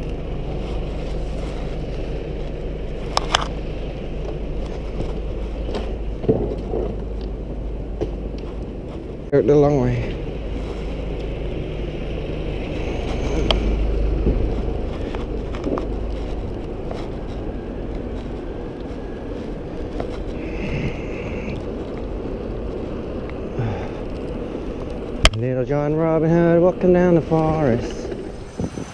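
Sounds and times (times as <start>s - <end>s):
bicycle tyre noise: 0.0s - 28.9s
wind buffeting microphone: 0.0s - 28.9s.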